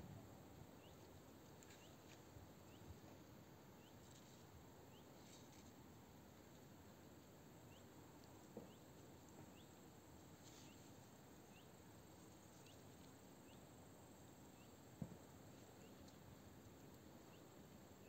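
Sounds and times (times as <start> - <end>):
small bird chirping faintly: 0.5 - 18.0.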